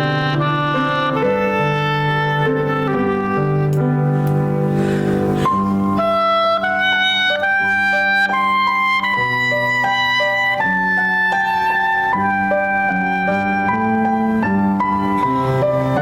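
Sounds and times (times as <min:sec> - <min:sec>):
instrumental music held notes: 0:00.0 - 0:16.0.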